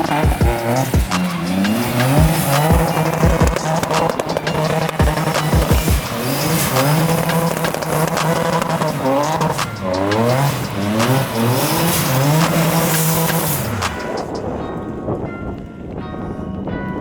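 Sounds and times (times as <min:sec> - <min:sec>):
tyres squealing: 0:00.0 - 0:14.4
car engine revving: 0:00.0 - 0:14.8.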